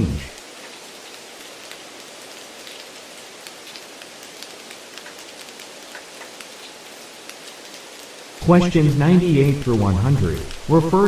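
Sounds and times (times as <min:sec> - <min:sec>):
rain-like hiss with light ticks: 0:00.0 - 0:11.0.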